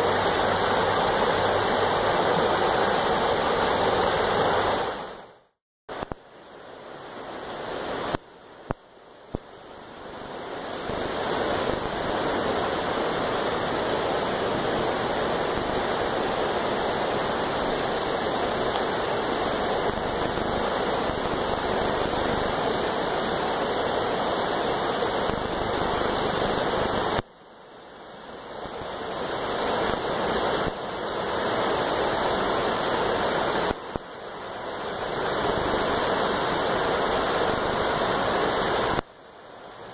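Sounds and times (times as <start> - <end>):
creek water rushing over stones: 0.0 - 39.9.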